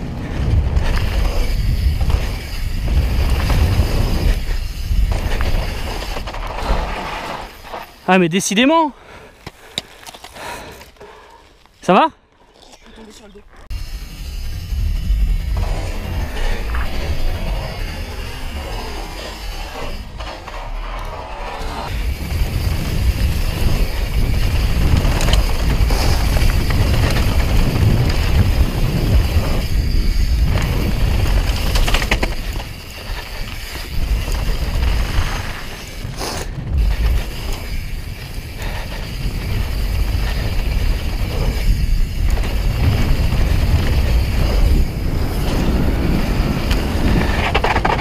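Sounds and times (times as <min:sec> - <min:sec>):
mountain bike rattling on dirt: 0:00.0 - 0:08.9, 0:12.6 - 0:48.0.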